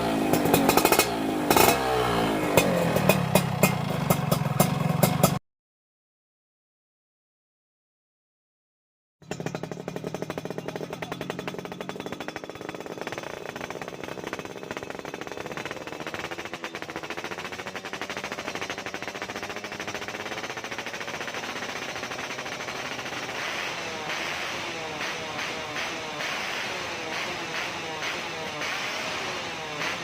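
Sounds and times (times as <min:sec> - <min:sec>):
two-stroke motorcycle engine idling: 0:00.0 - 0:05.4, 0:09.2 - 0:30.0.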